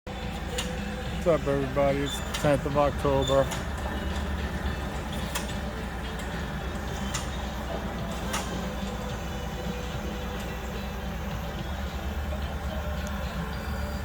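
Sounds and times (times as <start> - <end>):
engine running: 0.1 - 14.0.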